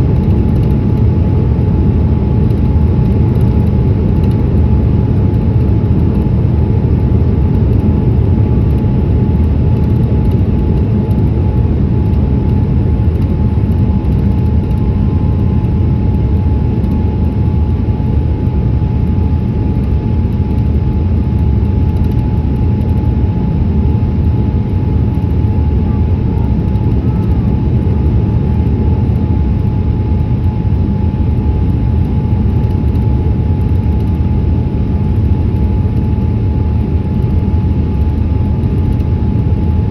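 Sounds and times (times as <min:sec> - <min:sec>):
airliner engine rumble: 0:00.0 - 0:39.9
faint constant whine: 0:00.0 - 0:39.9.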